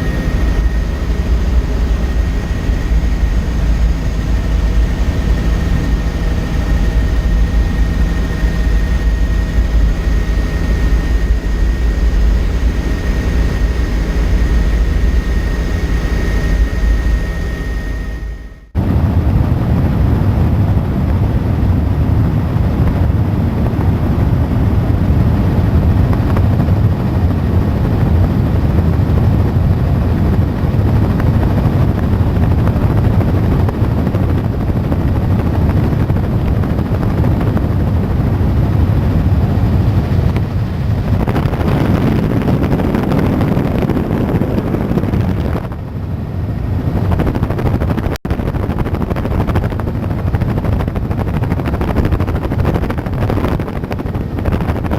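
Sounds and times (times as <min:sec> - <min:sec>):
helicopter rotor and turbine drone: 0:00.0 - 0:54.9.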